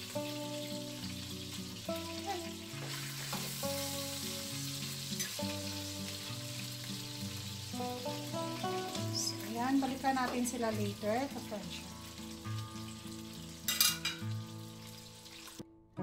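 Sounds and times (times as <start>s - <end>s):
food sizzling in frying pan: 0.0s - 15.6s
background music: 0.0s - 16.0s.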